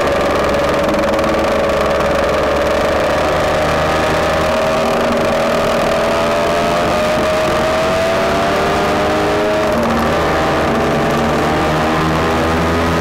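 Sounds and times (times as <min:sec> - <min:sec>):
two-stroke scooter engine accelerating: 0:00.0 - 0:13.0.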